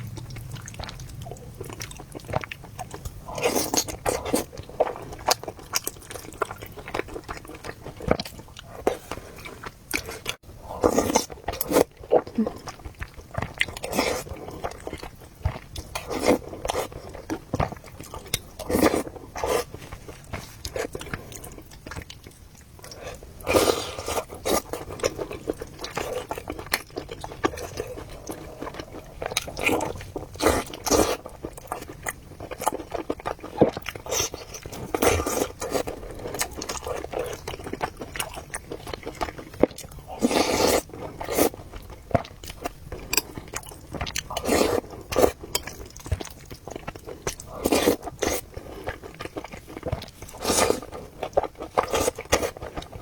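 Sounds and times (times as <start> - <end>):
chewing and biting: 0.1 - 53.0.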